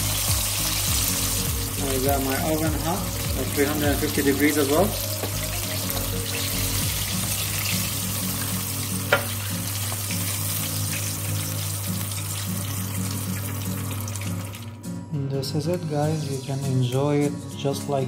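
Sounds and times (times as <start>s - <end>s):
chicken deep-frying sizzle: 0.0s - 14.7s.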